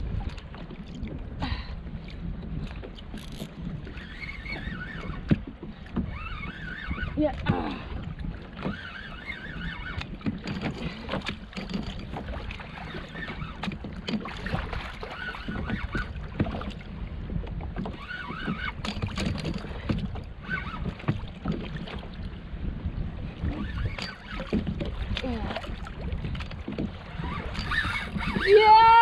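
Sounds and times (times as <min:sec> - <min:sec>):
water lapping against hull: 0:00.0 - 0:29.0.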